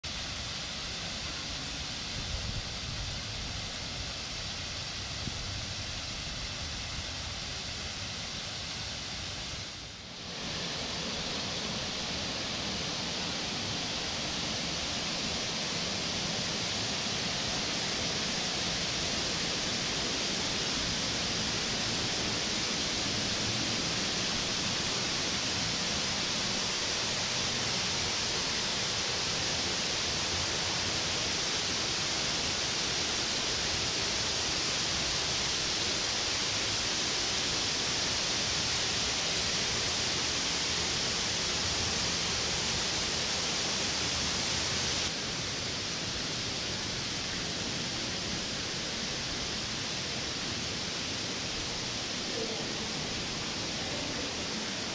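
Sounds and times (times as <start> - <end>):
rushing water hiss: 0.0 - 54.9.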